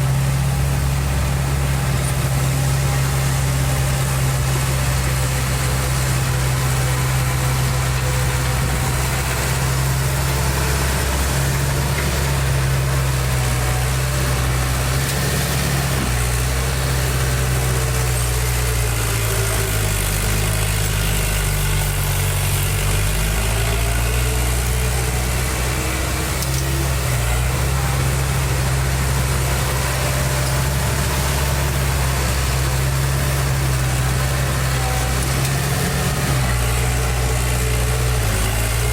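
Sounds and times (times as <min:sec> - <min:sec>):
construction machine diesel engine: 0:00.0 - 0:38.9.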